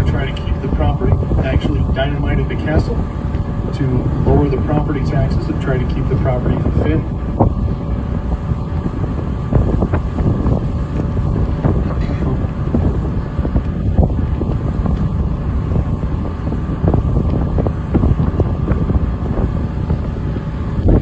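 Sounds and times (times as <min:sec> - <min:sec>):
boat rumbling through water: 0:00.0 - 0:21.0
wind buffeting microphone: 0:00.0 - 0:21.0.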